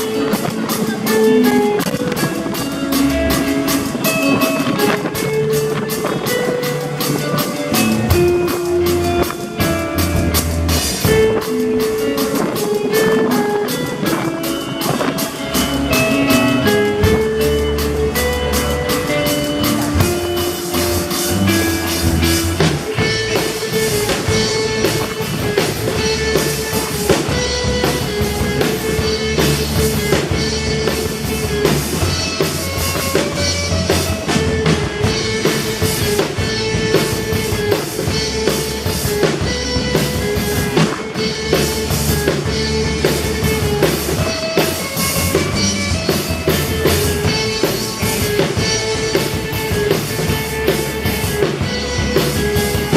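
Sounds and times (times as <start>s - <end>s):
bending melody line: 0.0s - 52.9s
drum kit steady beat: 0.0s - 52.9s
rock band playing live: 0.0s - 52.9s.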